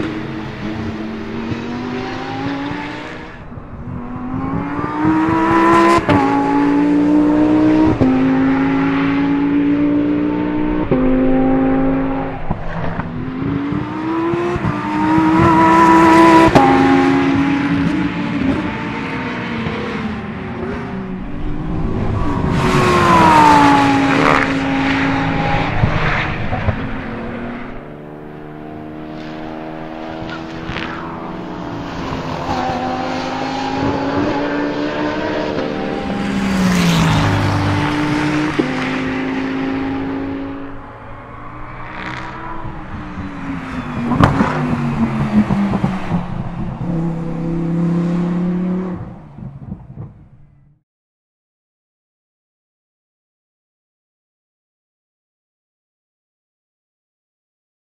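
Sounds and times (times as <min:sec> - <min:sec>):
race car engine passing: 0:00.0 - 0:49.8.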